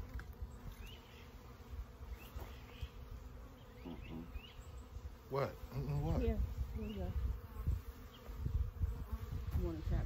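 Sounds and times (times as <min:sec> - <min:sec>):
bees buzzing: 0:00.0 - 0:10.0
faint bee chirps: 0:00.0 - 0:10.0.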